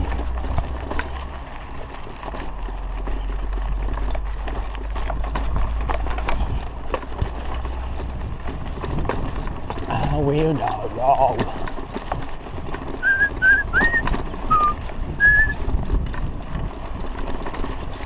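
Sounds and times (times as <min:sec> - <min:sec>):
bike rattling over dirt: 0:00.0 - 0:18.0
clicks and knocks from bike: 0:00.0 - 0:18.0
wind buffeting microphone: 0:02.9 - 0:18.0.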